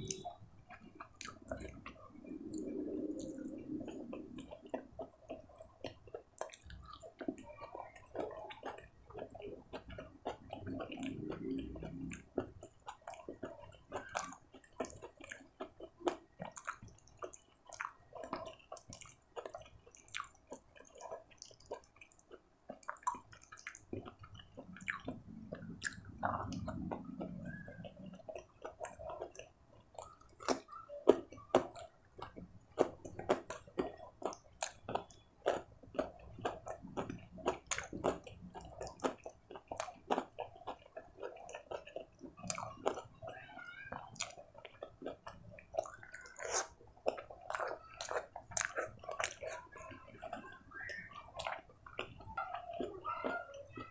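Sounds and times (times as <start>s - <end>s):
wet chewing and mouth sounds: 0.0s - 53.9s.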